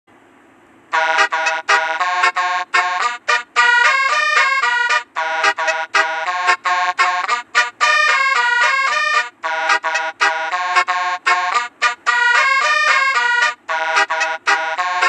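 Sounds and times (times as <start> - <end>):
multi-note bus horn melody: 0.9 - 15.0.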